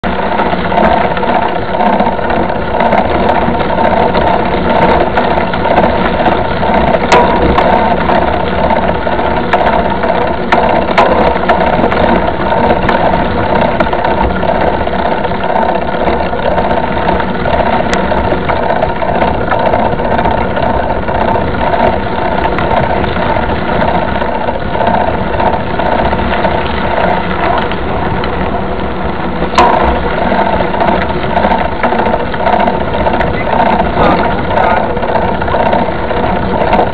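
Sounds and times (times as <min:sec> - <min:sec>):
bike mechanical rattle: 0:00.0 - 0:36.9.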